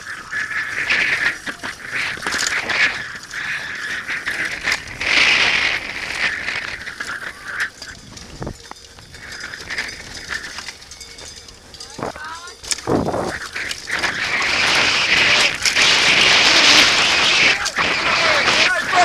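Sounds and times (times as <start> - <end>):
bike rattling over bumps: 0.0 - 19.0
tyres rushing over dirt: 0.0 - 19.0
wind buffeting microphone: 0.0 - 19.0.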